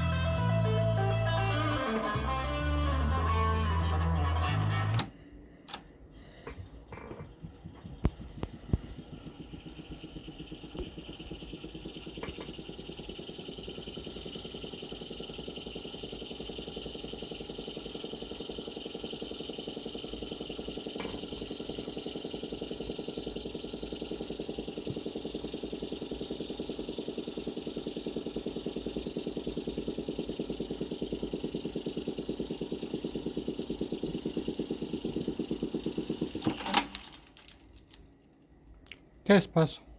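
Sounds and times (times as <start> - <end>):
tape deck whirring: 0.0 - 38.8.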